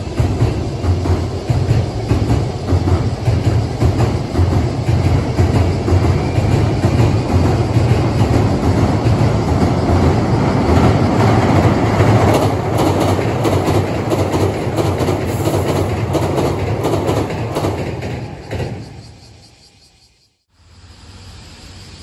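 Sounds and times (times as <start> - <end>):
wheels clicking over rail joints: 0.0 - 19.0
train wheels rumbling on rails: 0.0 - 19.8.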